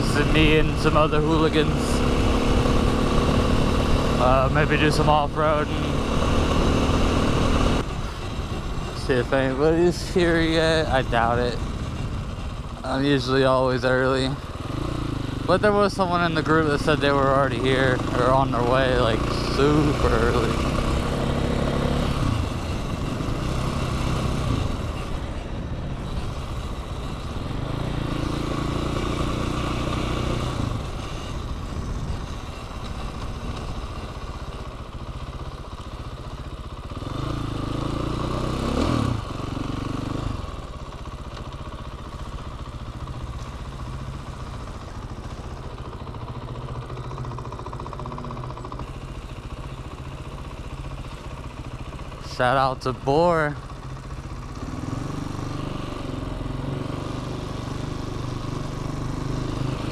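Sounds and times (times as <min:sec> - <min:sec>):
dirt bike engine revving: 0:00.0 - 0:35.6, 0:36.8 - 0:59.9.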